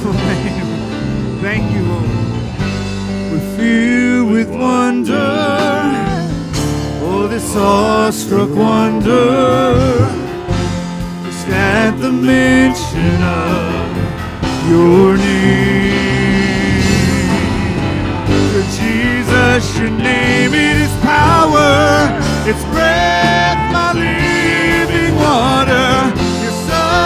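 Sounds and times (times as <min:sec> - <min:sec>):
keyboard: 0:00.0 - 0:27.0
person singing with vibrato: 0:03.3 - 0:27.0.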